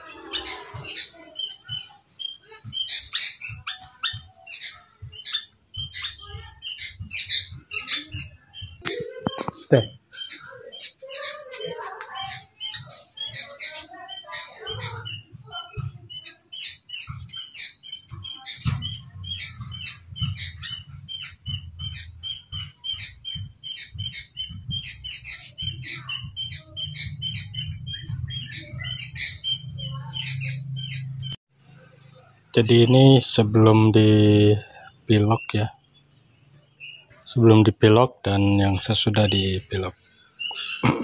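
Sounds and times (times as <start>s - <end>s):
bird chirping: 0.0s - 41.0s.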